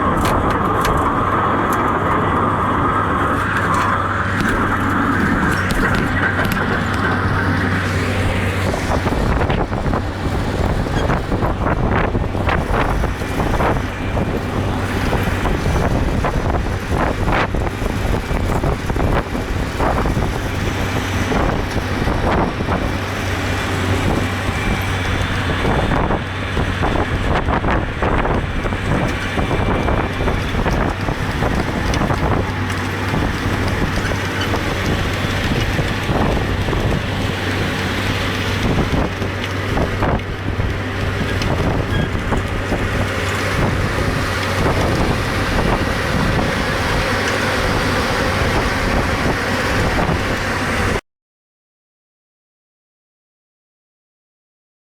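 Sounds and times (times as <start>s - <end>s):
machinery knocks and rattles: 0.0s - 50.8s
tractor engine running: 0.0s - 51.0s
wind buffeting microphone: 0.0s - 51.0s.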